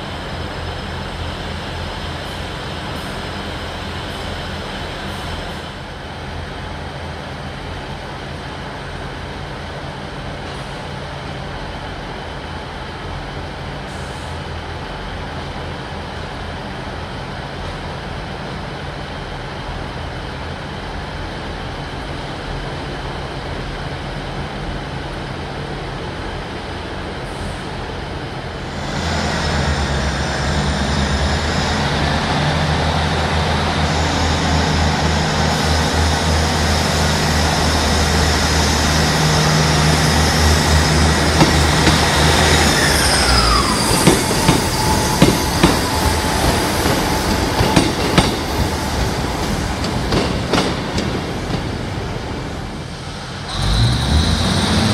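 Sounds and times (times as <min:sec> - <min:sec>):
diesel train engines running: 0:00.0 - 0:54.9.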